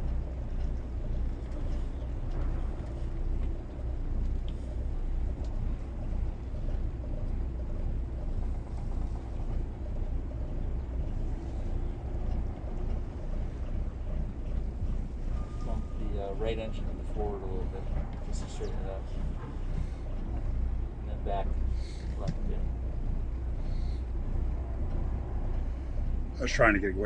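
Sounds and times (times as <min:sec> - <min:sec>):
boat diesel engines rumbling: 0:00.0 - 0:27.0
faint constant hum: 0:00.0 - 0:27.0.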